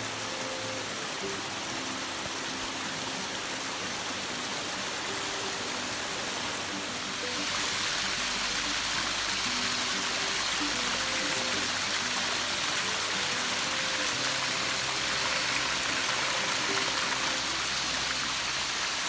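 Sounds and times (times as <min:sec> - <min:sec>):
faint background music: 0:00.0 - 0:19.0
waterfall rushing: 0:00.0 - 0:19.0.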